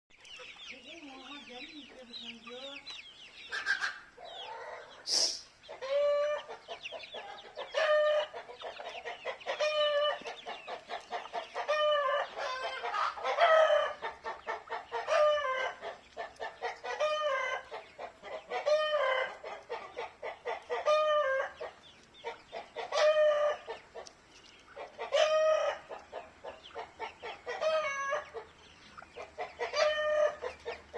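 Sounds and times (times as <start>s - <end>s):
chickens calling: 0.1s - 30.9s.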